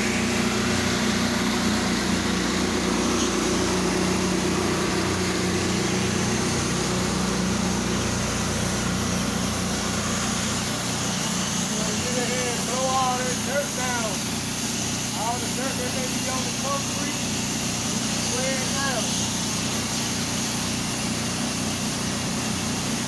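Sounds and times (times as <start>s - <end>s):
pressure washer engine running: 0.0s - 23.0s
water hissing from spray wand: 0.0s - 23.0s.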